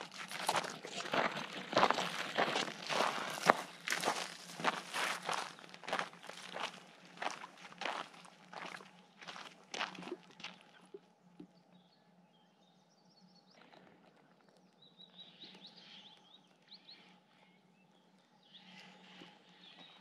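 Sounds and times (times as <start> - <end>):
faint birdsong chirping: 0.0 - 20.0.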